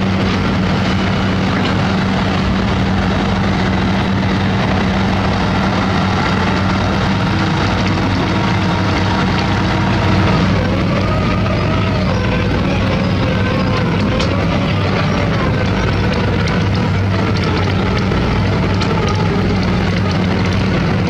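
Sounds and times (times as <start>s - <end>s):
heavy diesel engine droning: 0.0s - 21.0s.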